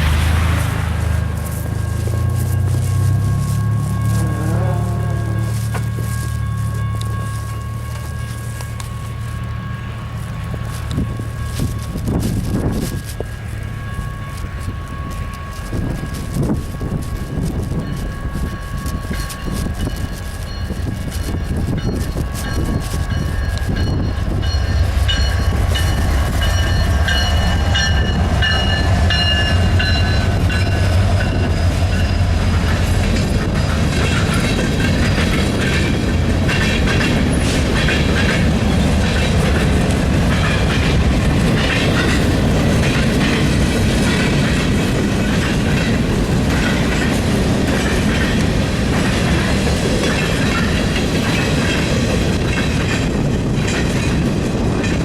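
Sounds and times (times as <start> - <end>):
freight cars rumbling: 0.0 - 55.0
locomotive engine drone: 0.0 - 55.0
wheels clacking over rail joints: 0.0 - 55.0.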